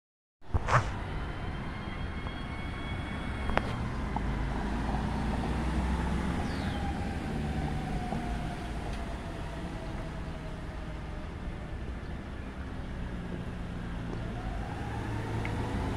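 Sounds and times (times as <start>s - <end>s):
cars driving past: 2.8s - 15.9s.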